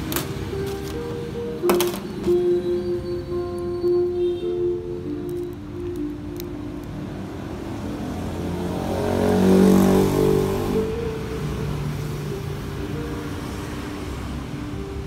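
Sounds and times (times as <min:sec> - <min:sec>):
music of sustained held notes: 0:00.0 - 0:15.0.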